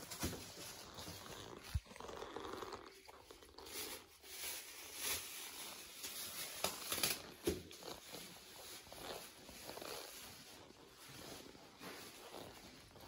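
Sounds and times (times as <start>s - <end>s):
soft rustling: 0.0s - 13.0s.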